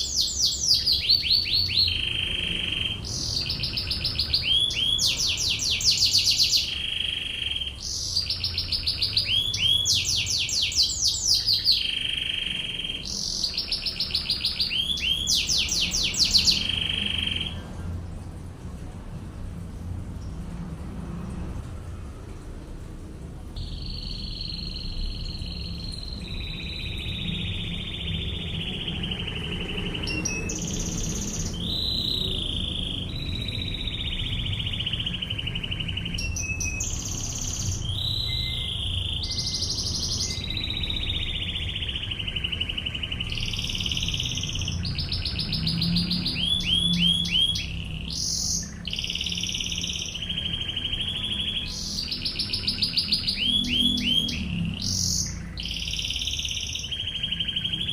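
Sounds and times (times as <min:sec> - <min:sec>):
canary singing rapid trills: 0:00.0 - 0:17.8, 0:23.6 - 0:57.9.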